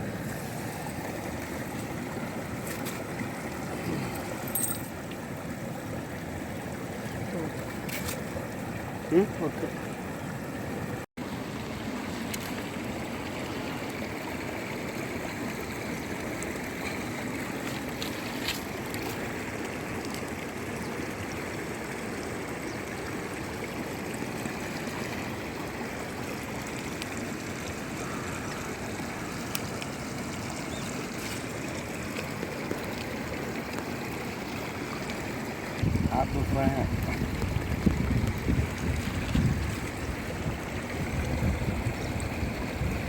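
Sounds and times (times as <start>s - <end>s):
river water rushing: 0.0s - 43.0s.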